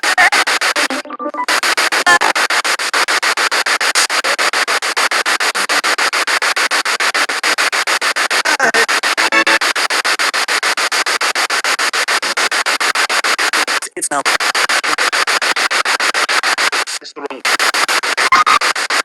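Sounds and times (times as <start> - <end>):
pulsing radio static: 0.0 - 19.0
snatches of broadcast sound: 0.0 - 19.0.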